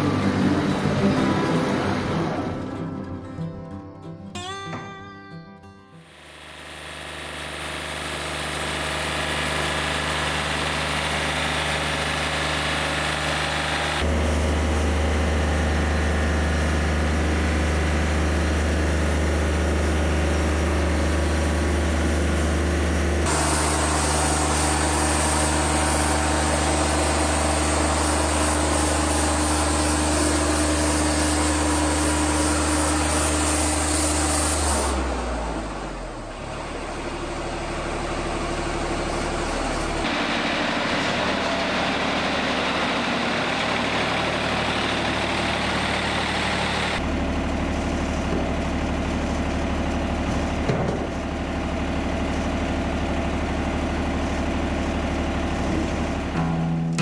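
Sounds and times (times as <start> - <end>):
sawmill engine running: 0.0 - 4.2, 6.0 - 57.0.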